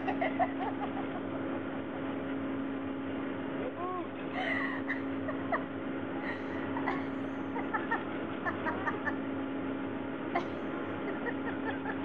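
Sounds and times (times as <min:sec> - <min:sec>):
ski lift drive humming: 0:00.0 - 0:12.0.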